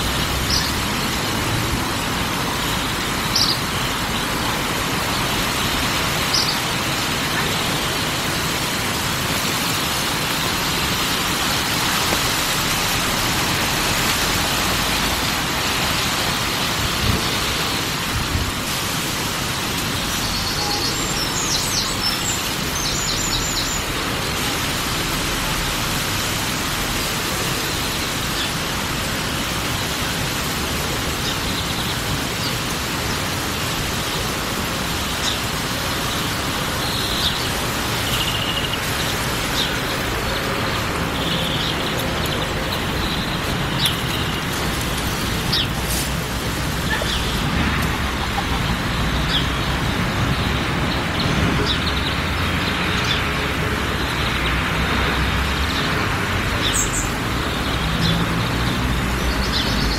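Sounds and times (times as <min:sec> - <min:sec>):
rushing outdoor background noise: 0:00.0 - 0:59.9.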